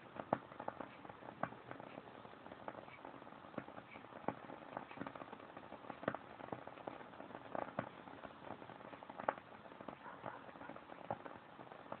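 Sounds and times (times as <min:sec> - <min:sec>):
candle crackling: 0:00.0 - 0:12.0.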